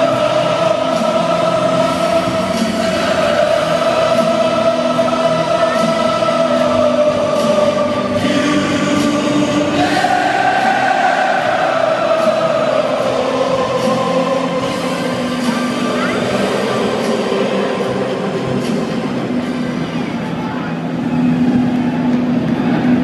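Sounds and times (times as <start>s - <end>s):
stadium crowd singing: 0.0s - 20.1s.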